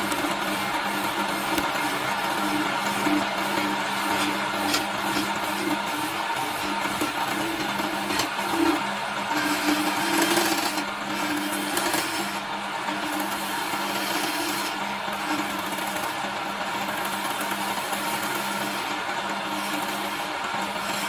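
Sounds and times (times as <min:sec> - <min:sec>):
chisel scraping spinning wood: 0:00.0 - 0:21.0
lathe motor hum: 0:00.0 - 0:21.0.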